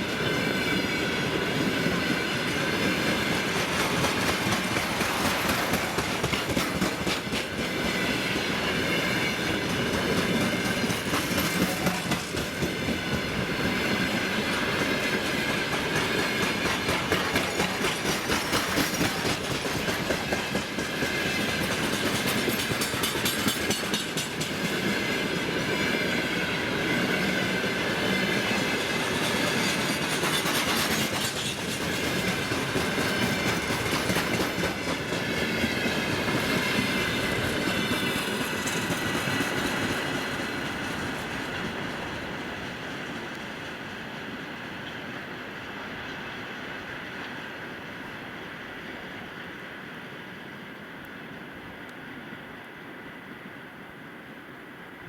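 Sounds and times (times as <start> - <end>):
train wheels clicking over rail joints: 0.1 - 45.4.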